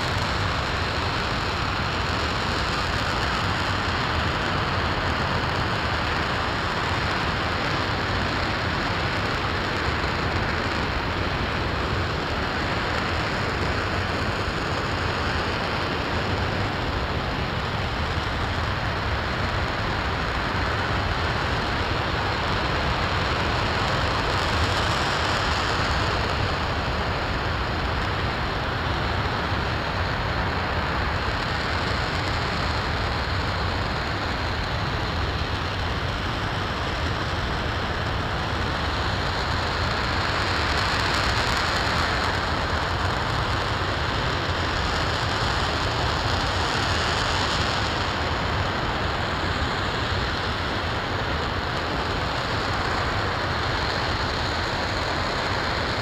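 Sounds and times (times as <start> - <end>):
rocket engine roaring: 0.0 - 56.0.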